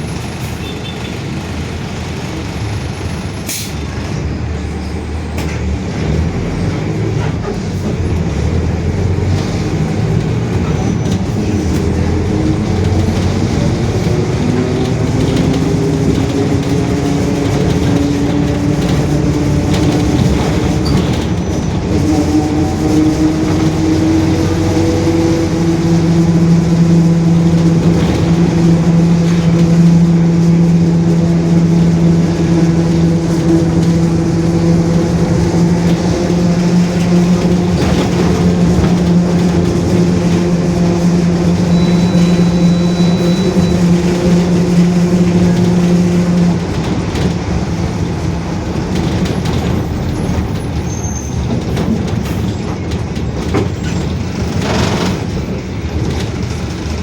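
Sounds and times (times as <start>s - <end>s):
bus differential whining drone: 0.0s - 57.0s
road and body rumble: 0.0s - 57.0s.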